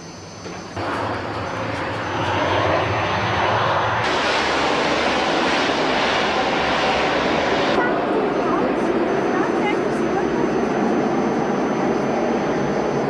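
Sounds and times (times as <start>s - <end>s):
aircraft engine flying close: 0.1s - 13.0s.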